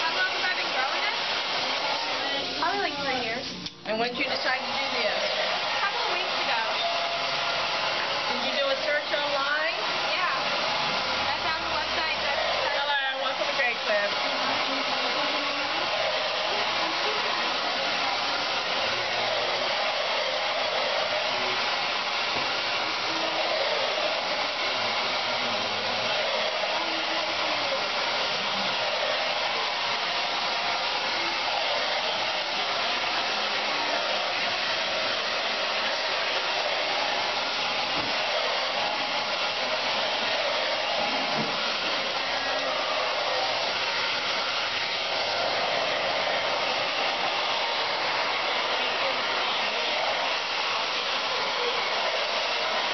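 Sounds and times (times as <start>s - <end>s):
hair dryer blowing: 0.0s - 52.9s.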